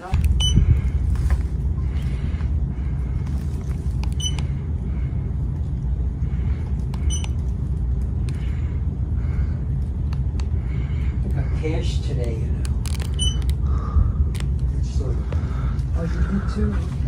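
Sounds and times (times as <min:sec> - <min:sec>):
ceiling fan air rumble: 0:00.0 - 0:17.0.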